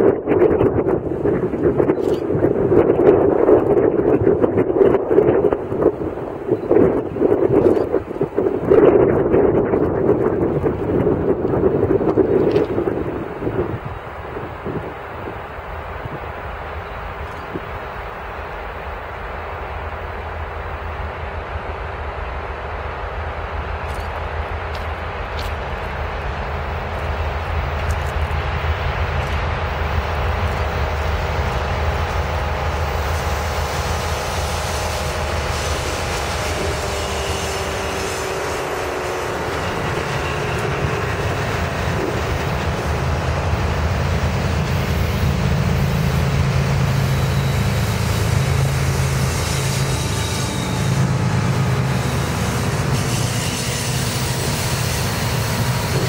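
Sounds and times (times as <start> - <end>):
diesel locomotive engines droning: 0.0 - 56.0
wheel and rail noise: 0.0 - 56.0.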